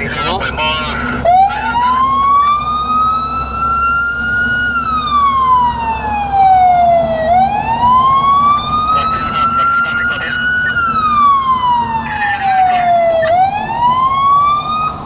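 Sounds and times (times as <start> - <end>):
engine and road rumble: 0.0 - 15.0
siren wailing: 0.0 - 15.0.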